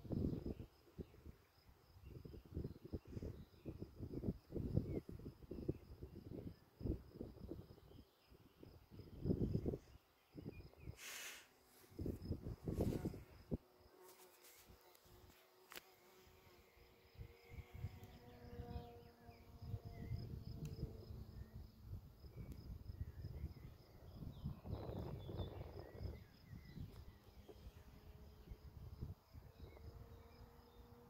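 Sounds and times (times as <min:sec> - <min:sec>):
wind rumbling on microphone: 0:00.0 - 0:13.7, 0:17.0 - 0:30.8
insects chirping: 0:00.1 - 0:31.0.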